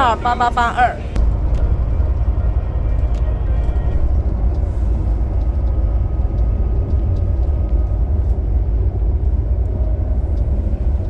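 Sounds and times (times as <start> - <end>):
coach engine rumble: 0.0 - 11.0
road noise: 0.0 - 11.0.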